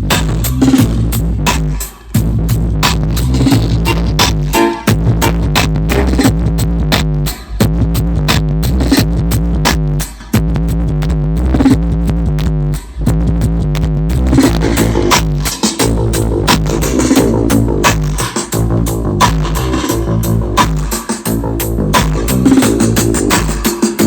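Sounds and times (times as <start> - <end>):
reggae music with heavy bass: 0.0 - 24.0.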